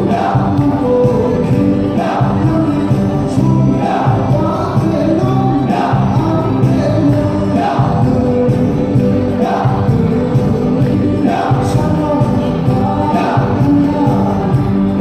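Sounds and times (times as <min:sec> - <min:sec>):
people singing: 0:00.0 - 0:15.0.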